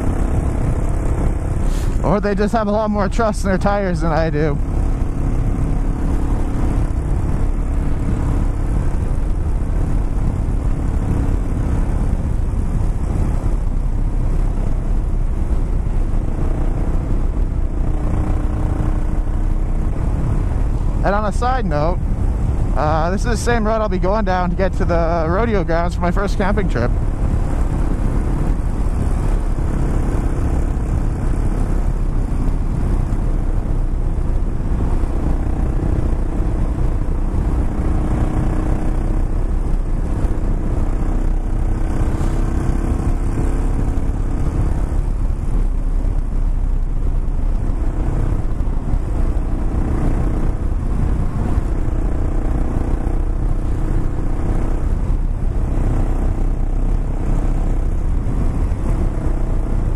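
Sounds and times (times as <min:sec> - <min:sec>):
motorcycle engine running: 0:00.0 - 0:59.9
road and wind noise: 0:00.0 - 0:59.9.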